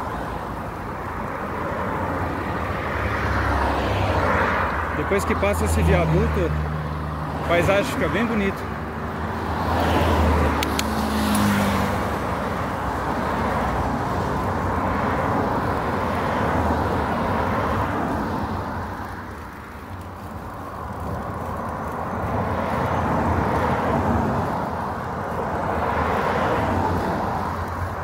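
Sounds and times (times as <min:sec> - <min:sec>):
highway traffic rush: 0:00.0 - 0:28.0
car engine passing: 0:01.6 - 0:19.6, 0:20.7 - 0:28.0.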